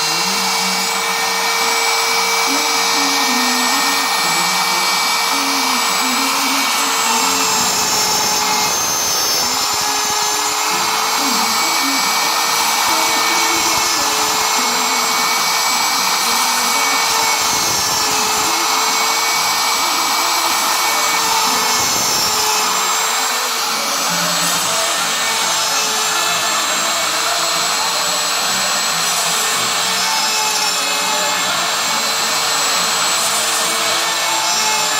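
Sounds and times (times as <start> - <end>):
cnc machine motor whine: 0.0 - 34.9
stepper motors changing pitch: 0.0 - 34.9.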